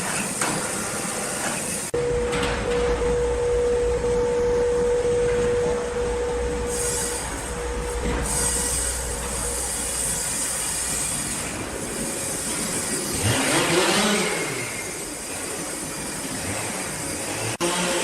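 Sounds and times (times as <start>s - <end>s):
sawmill machinery running: 0.0s - 18.0s.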